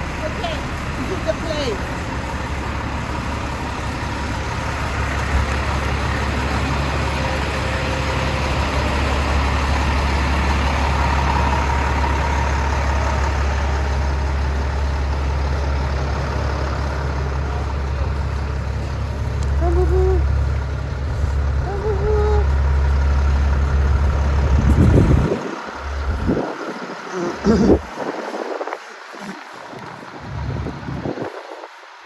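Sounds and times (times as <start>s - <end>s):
motor vehicle running: 0.0s - 32.0s.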